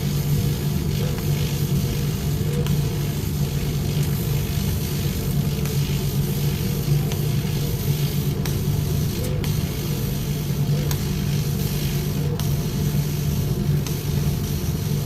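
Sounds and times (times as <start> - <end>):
laser cutter humming: 0.0 - 15.0.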